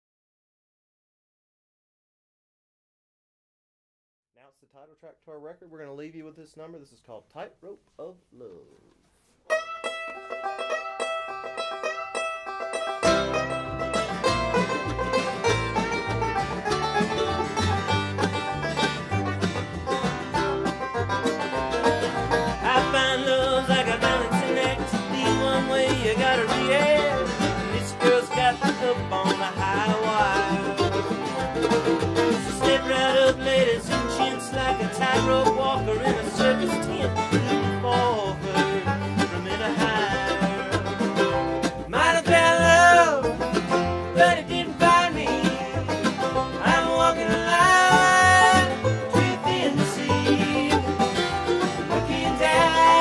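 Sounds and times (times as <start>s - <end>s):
acoustic guitar: 8.0s - 53.0s
mandolin: 9.4s - 53.0s
banjo rolls: 9.5s - 53.0s
plucked upright bass: 9.5s - 53.0s.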